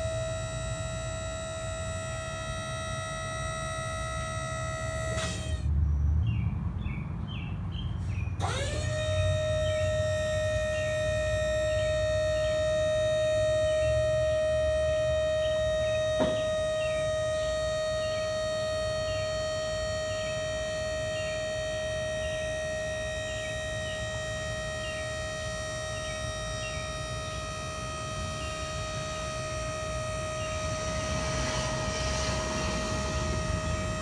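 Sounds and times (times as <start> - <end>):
hydraulic power unit whining: 0.0 - 5.7, 8.3 - 34.0.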